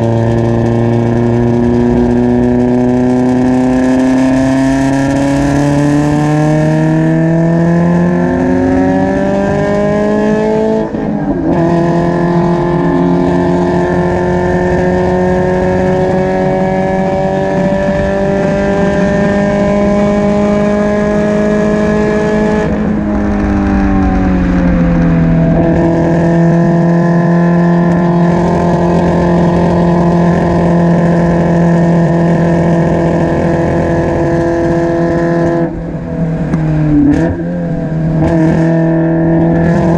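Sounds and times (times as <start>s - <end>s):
car engine revving at speed: 0.0s - 39.9s.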